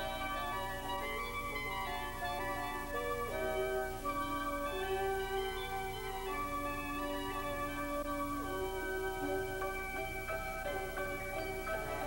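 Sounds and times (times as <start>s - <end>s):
organ chords: 0.0s - 12.0s.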